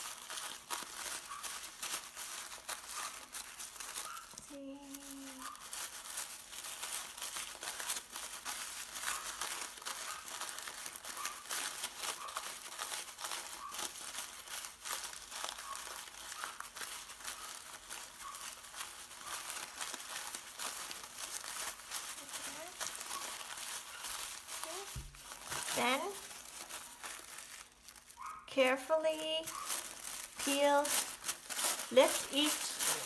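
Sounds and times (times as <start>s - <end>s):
tissue paper crinkling: 0.0s - 33.0s.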